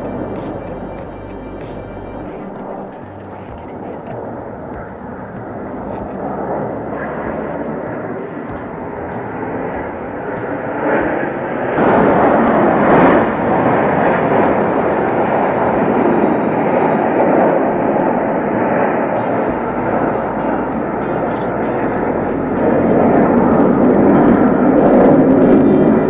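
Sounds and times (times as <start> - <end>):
airplane flying past: 0.0 - 26.0.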